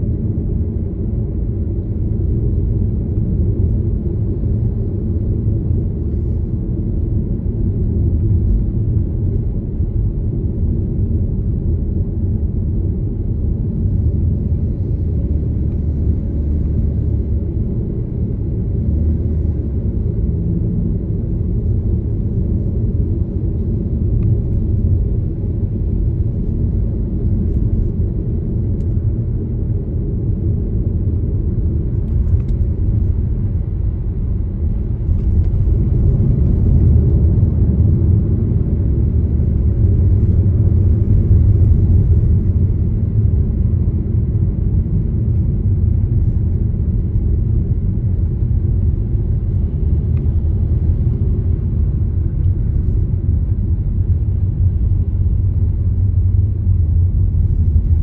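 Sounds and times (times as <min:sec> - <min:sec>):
car driving on road: 0:00.0 - 0:58.0.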